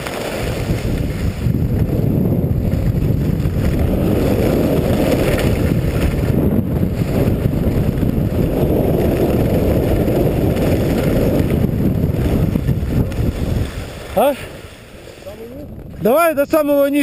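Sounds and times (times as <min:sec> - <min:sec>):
skis running over packed snow: 0:00.0 - 0:17.0
wind buffeting microphone: 0:00.0 - 0:17.0.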